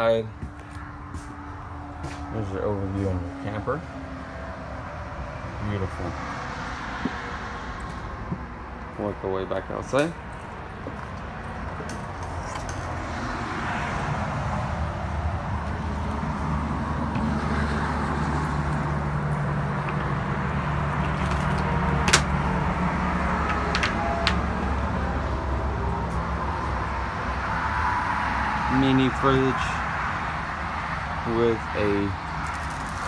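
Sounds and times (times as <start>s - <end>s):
engine humming: 0.4s - 33.0s.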